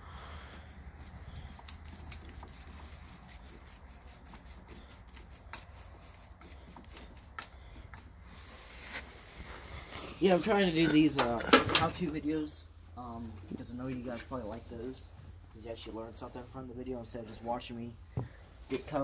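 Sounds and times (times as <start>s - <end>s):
faint rubbing: 0.4s - 17.6s.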